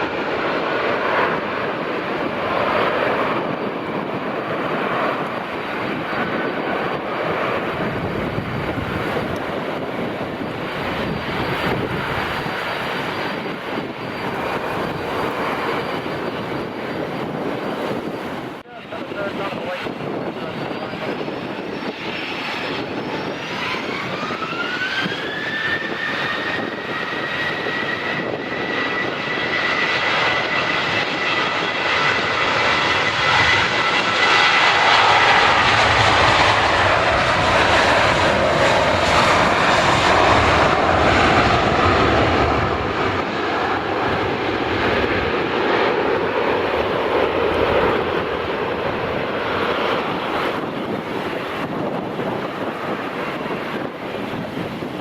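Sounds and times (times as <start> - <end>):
jet engine roar: 0.0 - 55.0
jet engine whine: 0.0 - 55.0.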